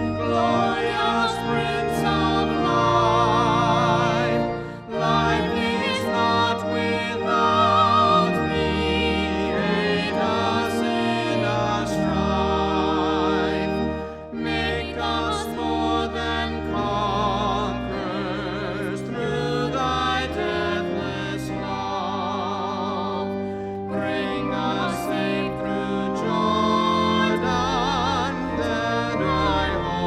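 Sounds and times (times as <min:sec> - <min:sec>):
person singing a hymn with vibrato: 0:00.0 - 0:30.0
sustained accompaniment chords: 0:00.0 - 0:30.0.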